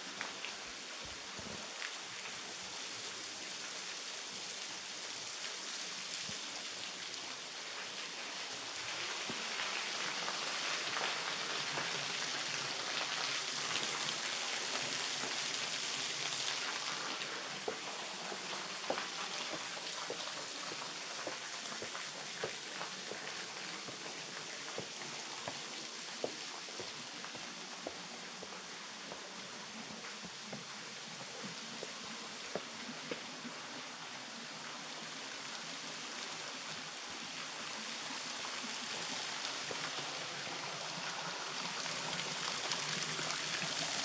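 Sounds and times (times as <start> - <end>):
water splashing from cascade: 0.0 - 44.0.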